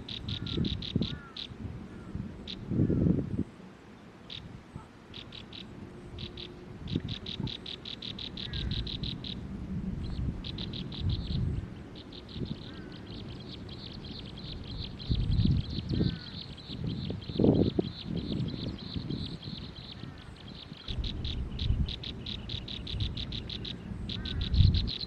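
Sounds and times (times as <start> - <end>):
baby birds begging chirps: 0.0 - 1.5, 5.1 - 9.4, 10.0 - 25.0.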